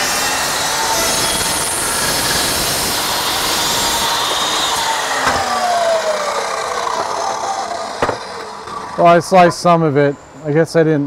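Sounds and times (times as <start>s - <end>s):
chop saw cutting wood: 0.0s - 9.6s
saw motor winding down: 0.0s - 9.8s.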